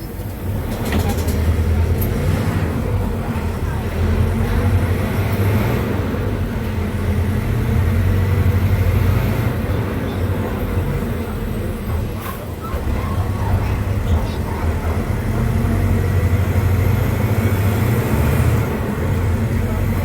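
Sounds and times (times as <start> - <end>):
diesel bus engine droning: 0.0 - 20.0.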